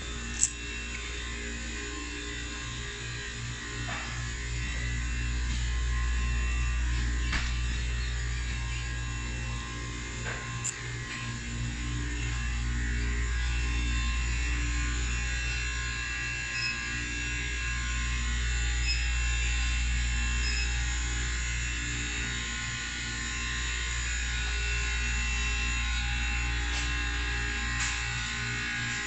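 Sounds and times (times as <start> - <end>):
faint high whine: 0.0 - 29.0
low electrical hum: 0.0 - 29.0.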